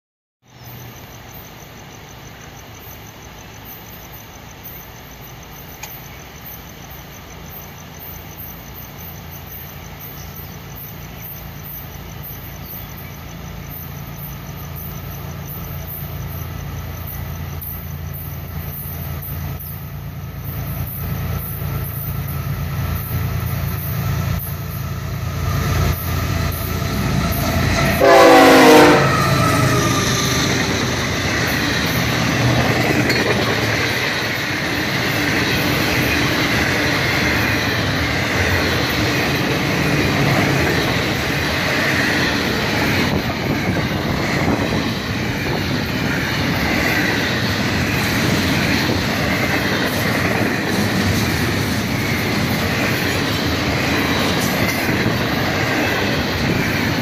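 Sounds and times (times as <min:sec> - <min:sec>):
diesel train engine hum: 0:00.5 - 0:57.0.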